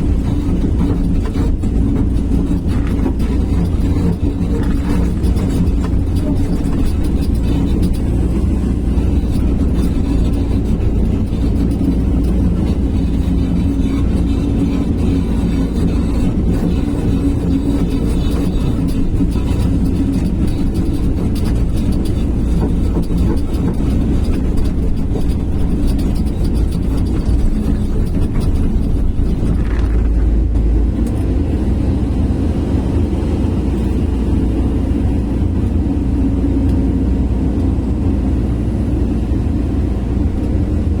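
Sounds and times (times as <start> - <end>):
excavator diesel engine rumbling: 0.0 - 41.0.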